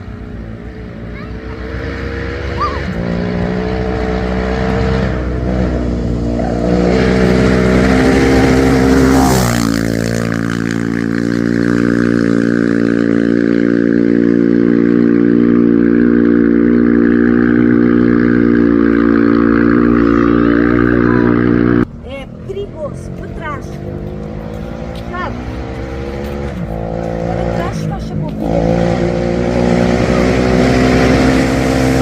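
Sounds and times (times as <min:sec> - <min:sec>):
tyre and road noise: 0:00.0 - 0:32.0
vehicle engine under load: 0:00.0 - 0:32.0.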